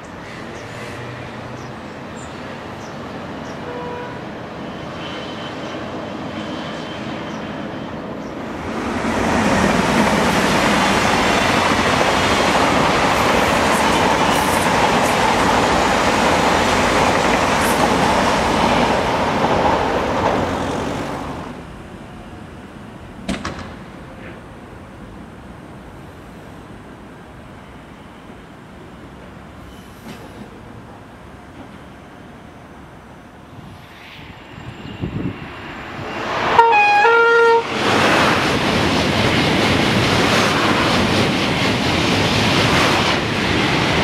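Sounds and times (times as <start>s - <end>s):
distant train running: 0.0s - 44.0s
electric train passing: 0.0s - 44.0s.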